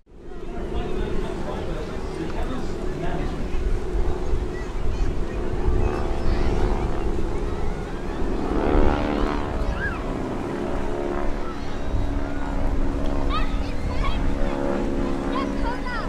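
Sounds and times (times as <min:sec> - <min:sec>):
radial engine aircraft droning: 0:00.0 - 0:16.0
crowd voices: 0:00.1 - 0:16.0.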